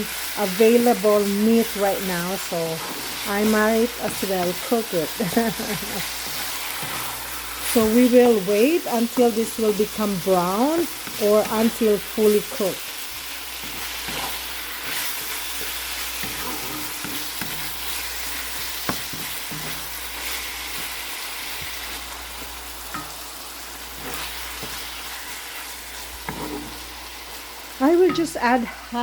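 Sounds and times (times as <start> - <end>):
meat sizzling in oil: 0.0 - 29.0.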